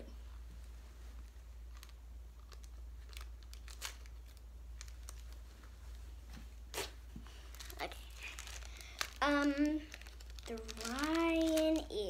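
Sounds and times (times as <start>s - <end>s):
plastic crinkling: 0.5s - 12.0s.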